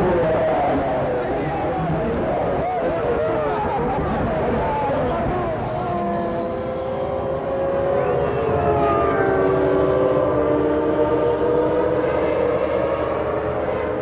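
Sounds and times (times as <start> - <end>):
racing car engines at high revs: 0.0 - 14.0.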